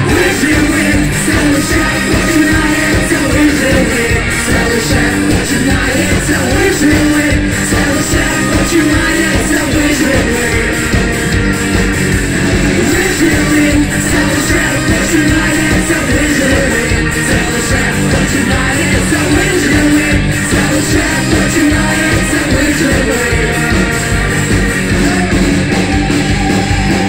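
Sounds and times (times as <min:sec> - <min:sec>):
man and woman singing: 0:00.0 - 0:10.9, 0:12.8 - 0:23.8
ska-punk band playing: 0:00.0 - 0:27.0.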